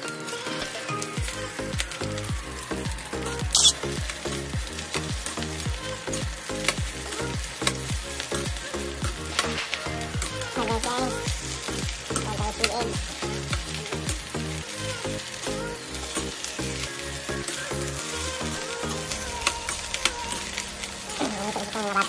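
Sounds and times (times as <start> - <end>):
rice and egg sizzling in pan: 0.0 - 22.0.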